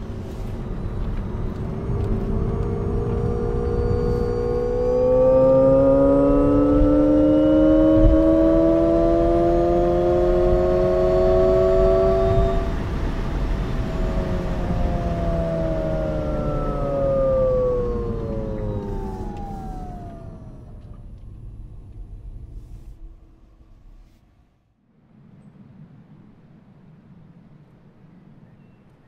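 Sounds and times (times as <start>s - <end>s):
synthesized car drive sound: 0.0s - 23.9s.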